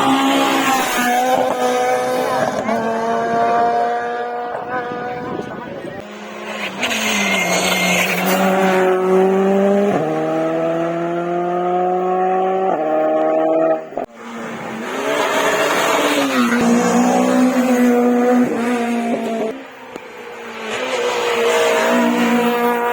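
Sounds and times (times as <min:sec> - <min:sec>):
rally car engine accelerating: 0:00.0 - 0:22.9
rally car engine passing: 0:00.0 - 0:22.9.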